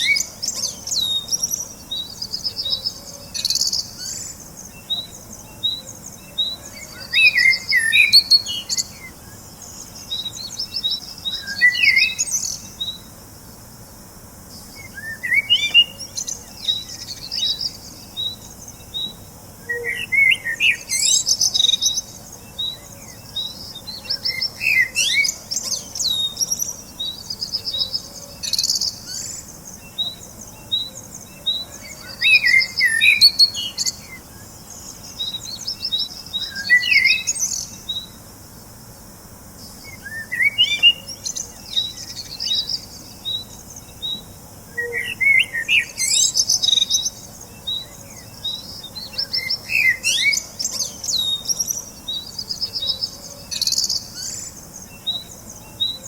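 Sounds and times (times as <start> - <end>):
bird warbling song: 0.0 - 13.2, 14.5 - 38.2, 39.5 - 56.0
birds chirping: 0.0 - 13.7, 14.4 - 38.4, 39.5 - 56.0.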